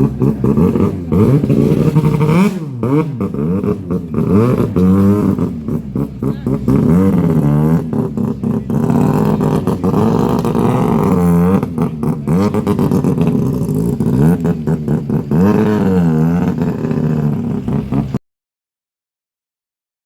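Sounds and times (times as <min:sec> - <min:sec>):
exhaust crackles: 0:00.0 - 0:18.2
rotary engine revving: 0:00.0 - 0:18.2.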